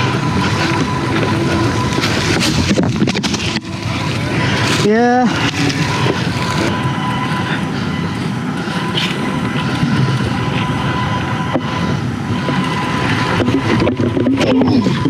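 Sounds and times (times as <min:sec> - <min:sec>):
mountain bike on dirt trail: 0:00.0 - 0:15.0.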